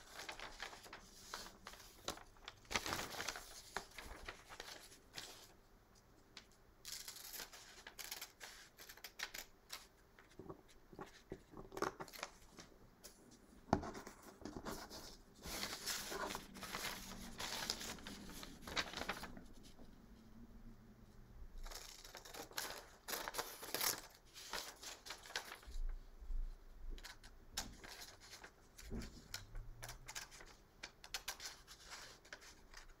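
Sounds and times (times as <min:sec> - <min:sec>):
paper rustling and crinkling: 0:00.0 - 0:05.6, 0:06.4 - 0:20.0, 0:21.6 - 0:25.9, 0:27.0 - 0:33.0.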